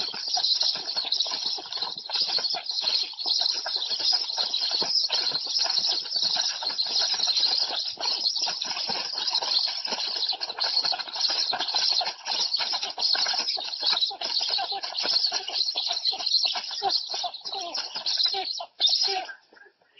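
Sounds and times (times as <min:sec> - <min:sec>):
nestlings begging calls: 0:00.0 - 0:19.3
wings flapping: 0:00.0 - 0:19.3.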